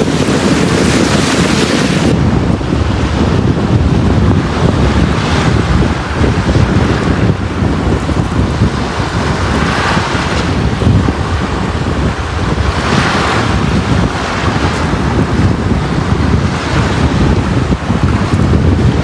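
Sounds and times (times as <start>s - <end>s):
low surf rumble: 0.0s - 19.0s
sea waves washing onto beach: 0.0s - 19.0s.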